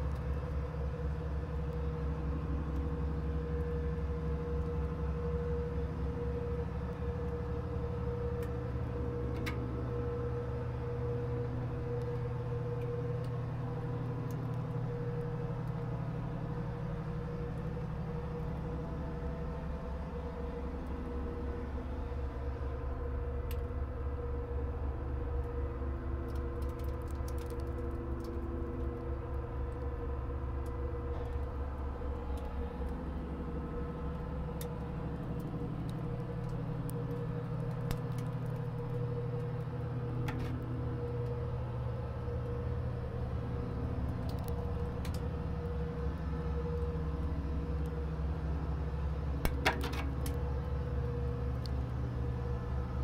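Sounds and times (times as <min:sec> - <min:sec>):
machinery drone: 0:00.0 - 0:53.0.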